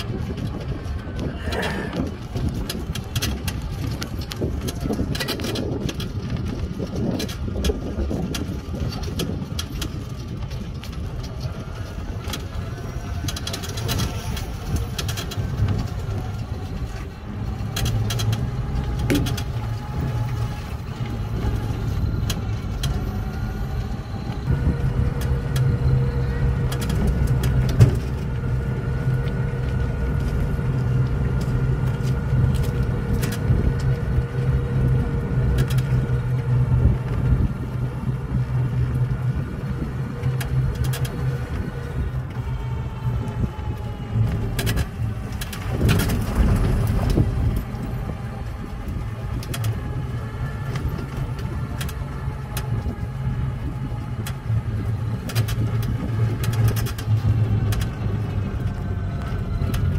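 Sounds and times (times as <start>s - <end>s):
clicks and rattles: 0.0s - 23.1s, 26.6s - 37.8s, 43.4s - 59.9s
steady whine: 0.0s - 59.9s
wind and road rumble: 0.0s - 59.9s.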